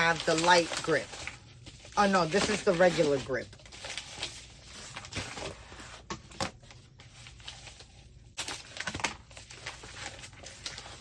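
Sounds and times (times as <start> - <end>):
plastic crinkling and rustling: 0.0 - 11.0.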